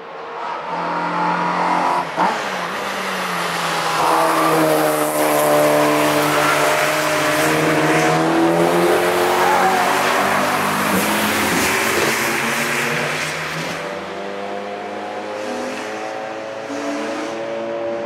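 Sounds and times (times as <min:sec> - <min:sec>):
car engines accelerating: 0:00.0 - 0:18.0.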